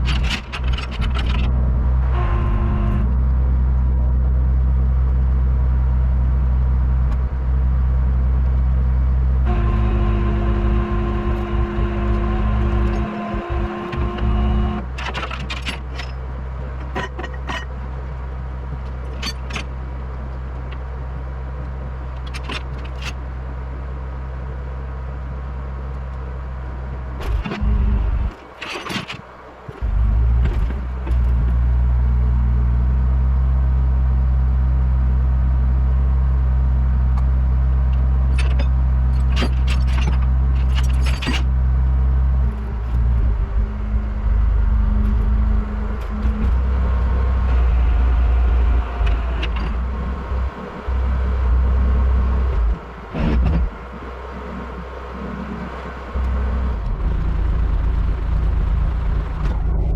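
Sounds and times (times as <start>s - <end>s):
truck engine running: 0.0s - 28.6s, 29.2s - 59.9s.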